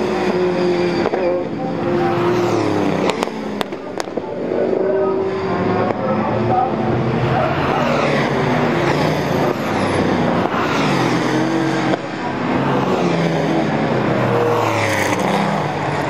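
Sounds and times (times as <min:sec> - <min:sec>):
racing car engines passing: 0:00.0 - 0:16.0.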